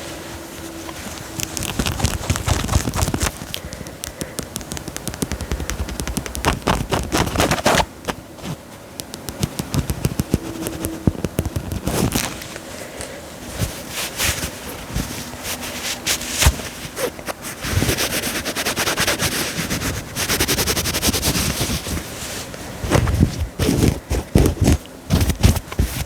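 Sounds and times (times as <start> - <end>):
fabric being scratched: 0.0 - 12.5, 13.5 - 26.0.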